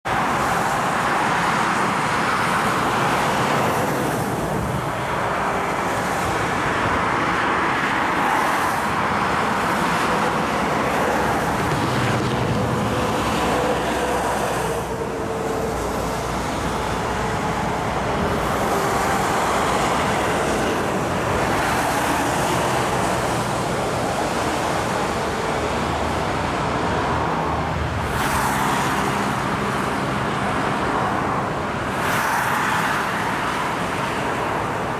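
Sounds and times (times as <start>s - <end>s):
fire engine passing: 0.1s - 32.2s
tyres hissing on wet road: 0.1s - 34.9s.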